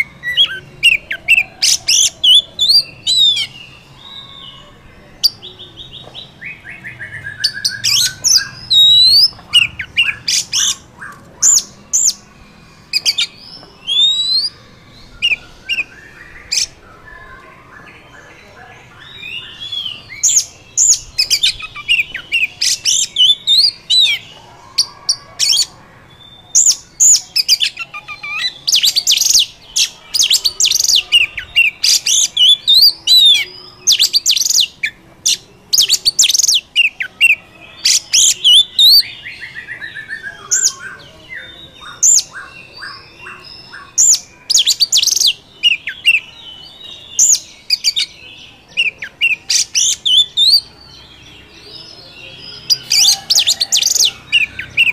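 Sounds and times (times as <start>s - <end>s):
bird singing whistles and trills: 0.0s - 50.7s.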